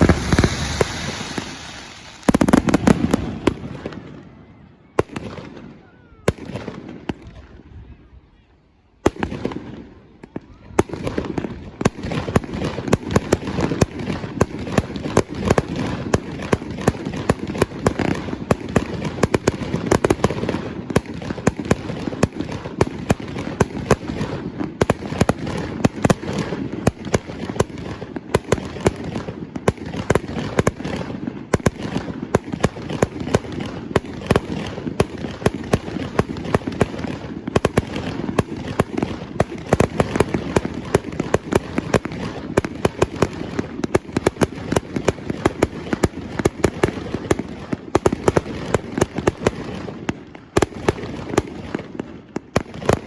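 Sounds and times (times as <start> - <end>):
fireworks bangs and crackle: 0.0 - 53.0.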